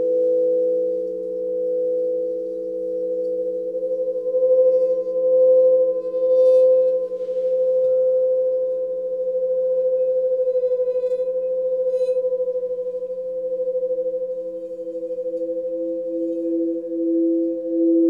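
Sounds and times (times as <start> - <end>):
faint higher rings: 0.0 - 18.0
singing bowls sustained tones: 0.0 - 18.0.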